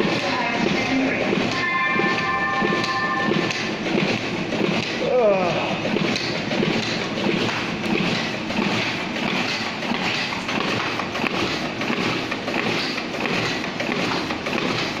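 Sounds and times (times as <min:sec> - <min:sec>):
duplicator printing clatter: 0:00.0 - 0:15.0.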